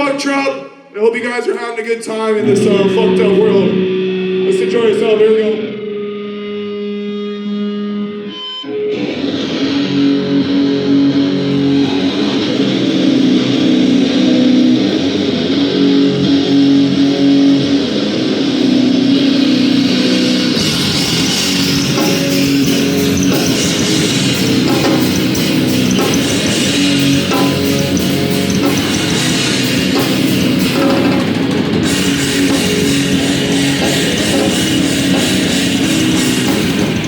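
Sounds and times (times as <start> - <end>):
steady drone: 2.4 - 6.8, 9.4 - 37.0
distorted electric guitar chords: 2.4 - 37.0.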